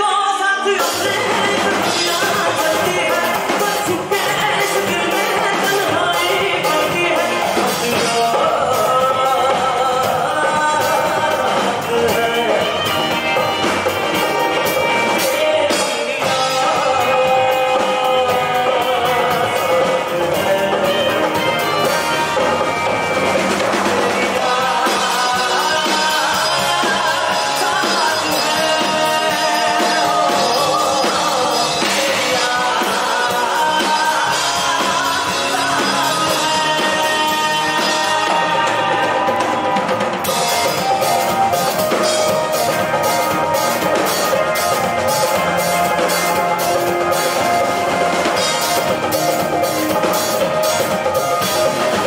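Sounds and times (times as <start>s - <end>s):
drums steady beat: 0.0s - 52.0s
live band playing: 0.0s - 52.0s
man singing: 0.0s - 52.0s.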